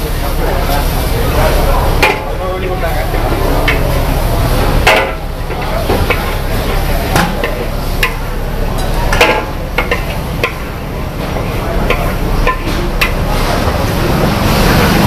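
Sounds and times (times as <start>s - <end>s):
ladle clanking against wok: 0.0s - 15.0s.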